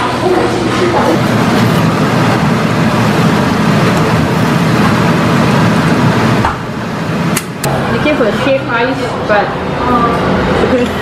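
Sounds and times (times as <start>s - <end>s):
loud din with low rumble: 0.0s - 11.0s.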